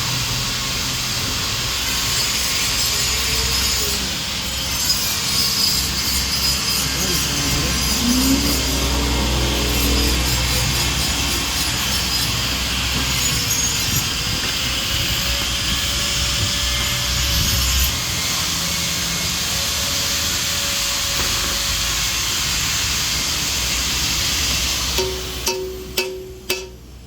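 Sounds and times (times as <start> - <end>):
power tool cutting metal: 0.0 - 26.7.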